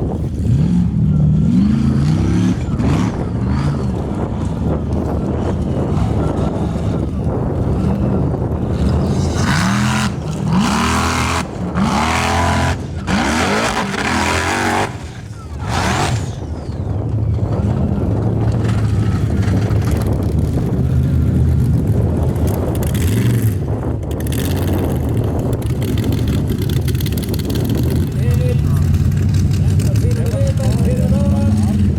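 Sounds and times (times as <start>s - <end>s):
buggy engine revving: 0.0s - 31.9s.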